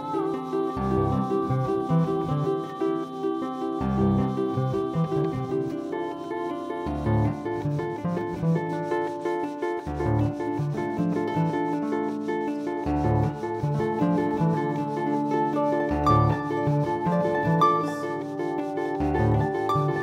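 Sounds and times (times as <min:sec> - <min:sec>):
harp plucked notes: 0:00.0 - 0:20.0.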